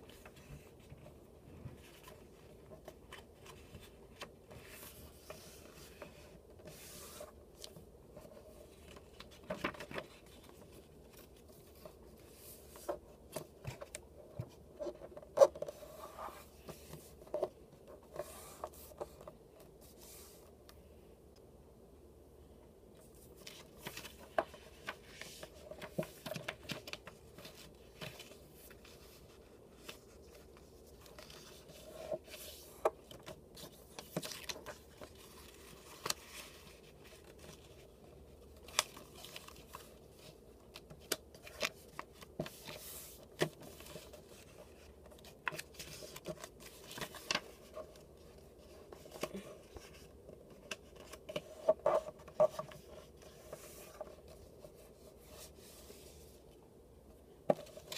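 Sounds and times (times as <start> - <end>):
paper folding and creasing: 1.7 - 20.5, 23.0 - 56.3.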